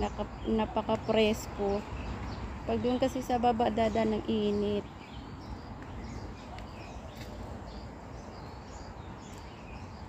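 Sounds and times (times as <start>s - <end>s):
birds chirping: 0.0s - 10.0s
low outdoor background noise: 0.0s - 10.0s.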